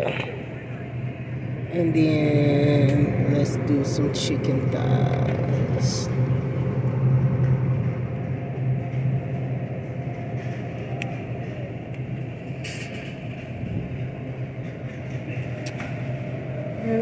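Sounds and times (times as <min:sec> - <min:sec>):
low hum of refrigerated cases: 0:00.0 - 0:17.0.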